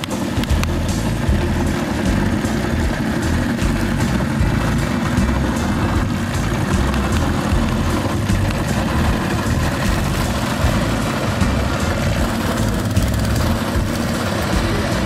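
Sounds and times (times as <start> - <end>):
outboard motor running: 0.0 - 15.0
propeller churning water: 0.0 - 15.0.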